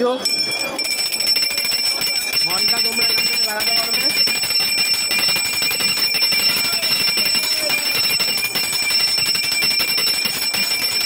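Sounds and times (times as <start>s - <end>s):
temple bells clanging: 0.0s - 11.0s.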